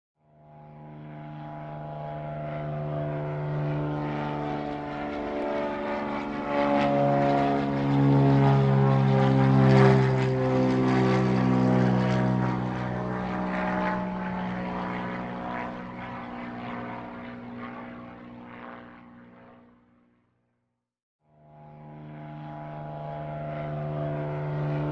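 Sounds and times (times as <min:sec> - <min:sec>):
propeller airplane flying past: 0:00.3 - 0:20.4, 0:21.3 - 0:24.9.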